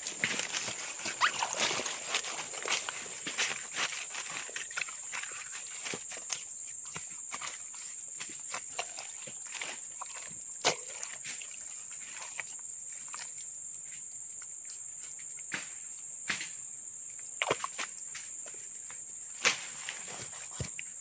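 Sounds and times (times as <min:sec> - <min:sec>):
dry leaves and mud crackling: 0:00.0 - 0:14.1, 0:17.2 - 0:21.0
high insect drone: 0:00.0 - 0:21.0.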